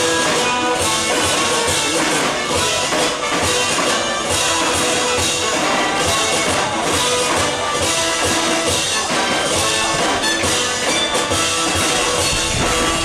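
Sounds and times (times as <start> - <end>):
marching drums: 0.0 - 13.0
pitched instruments: 0.0 - 13.0.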